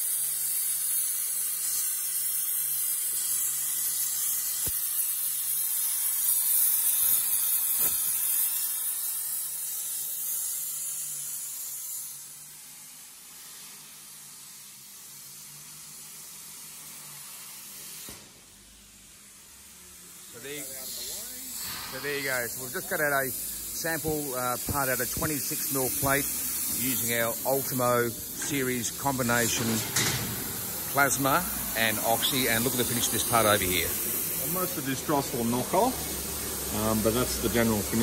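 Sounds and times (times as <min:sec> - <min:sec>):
plasma torch hissing: 0:00.0 - 0:38.0.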